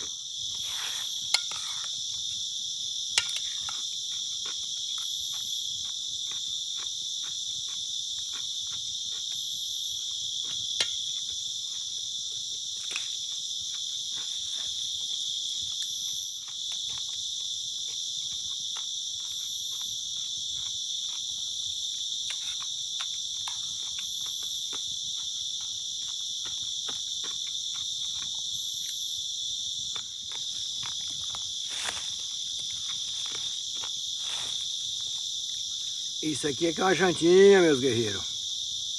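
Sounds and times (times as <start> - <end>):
insects buzzing and trilling: 0.0 - 38.9.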